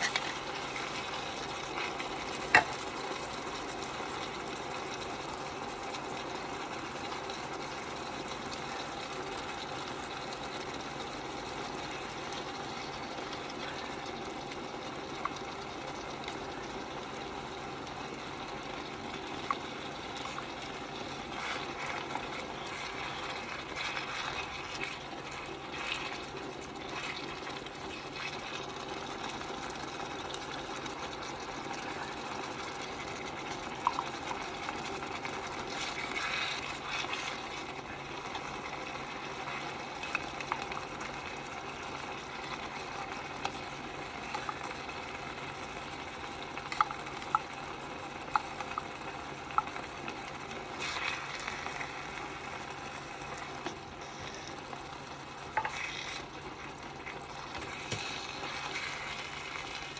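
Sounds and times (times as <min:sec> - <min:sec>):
meat sizzling in a pot: 0:00.0 - 0:59.9.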